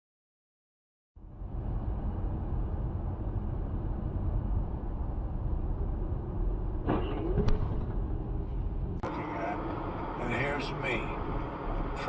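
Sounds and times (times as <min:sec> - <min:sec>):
car rumbling on road: 0:01.2 - 0:12.0.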